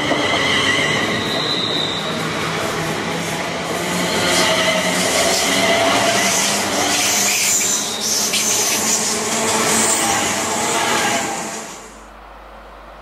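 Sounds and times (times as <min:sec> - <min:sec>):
train wheels on rail: 0:00.0 - 0:13.0.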